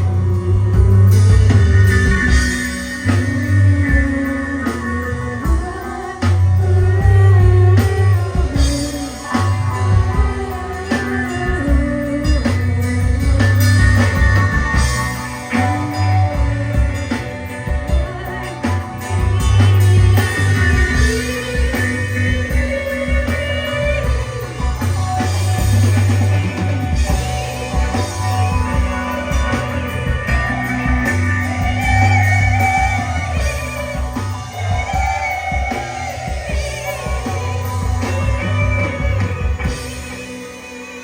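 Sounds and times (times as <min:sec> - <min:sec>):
rock band playing: 0:00.0 - 0:41.0.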